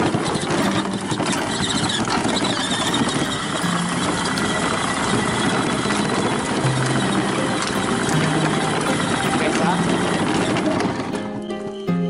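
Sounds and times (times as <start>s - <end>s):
electric motor whine: 0.0s - 11.8s
plastic wheels rolling on rough ground: 0.0s - 12.0s.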